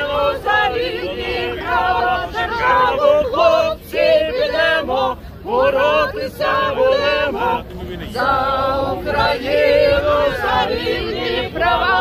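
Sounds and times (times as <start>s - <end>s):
crowd singing in unison: 0.0s - 12.0s.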